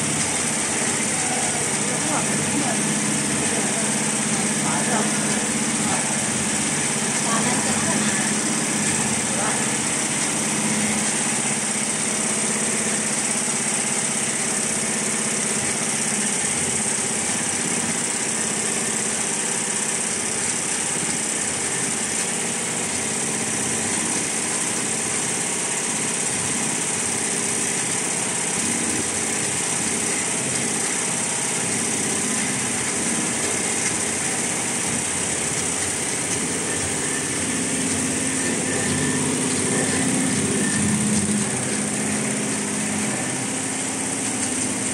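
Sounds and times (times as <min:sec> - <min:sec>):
embroidery machine stitching: 0:00.0 - 0:44.9.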